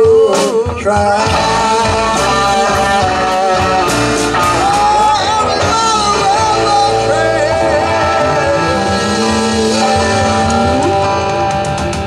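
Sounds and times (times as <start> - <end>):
live rock band playing: 0.0 - 12.0
person singing: 0.0 - 12.0.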